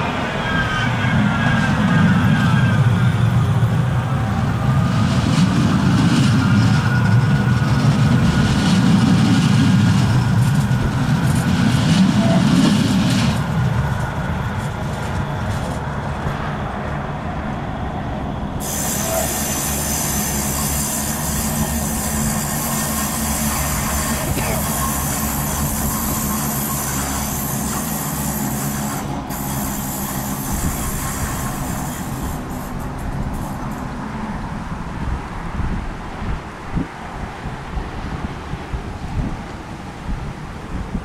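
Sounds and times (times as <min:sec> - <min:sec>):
tram wheels rumbling: 0:00.0 - 0:41.0.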